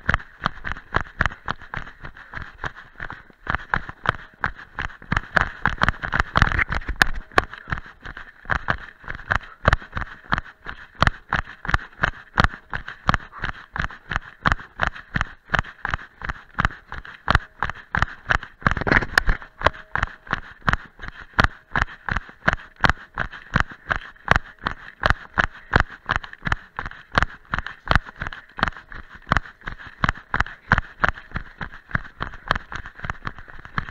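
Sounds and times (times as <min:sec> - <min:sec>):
running footsteps on leafy dirt path: 0:00.0 - 0:33.9.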